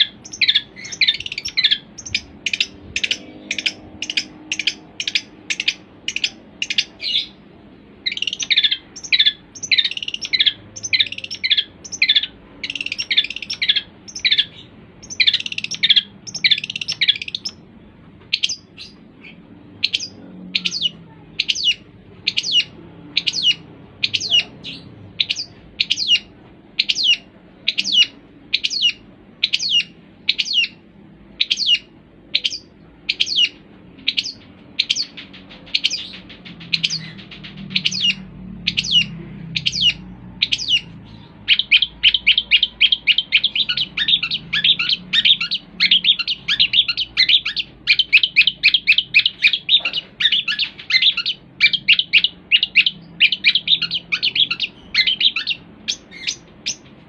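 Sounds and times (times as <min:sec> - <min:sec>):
bird chattering: 0:00.0 - 0:30.8, 0:31.4 - 0:57.0.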